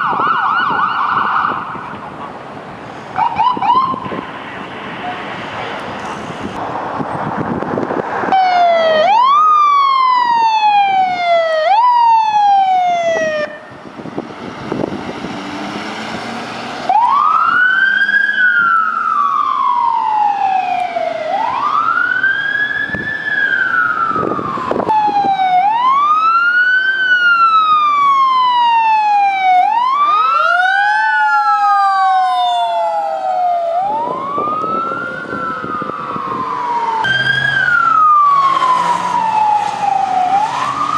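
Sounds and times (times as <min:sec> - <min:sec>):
emergency vehicle sirens wailing: 0:00.0 - 0:40.9
road noise: 0:00.0 - 0:40.9.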